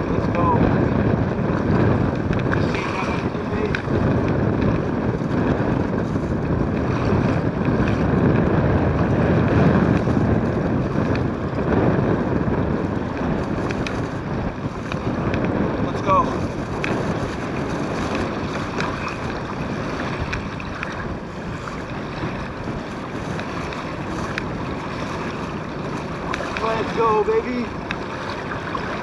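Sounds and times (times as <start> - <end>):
river water splashing against hull: 0.0 - 29.0
wind buffeting microphone: 0.0 - 29.0.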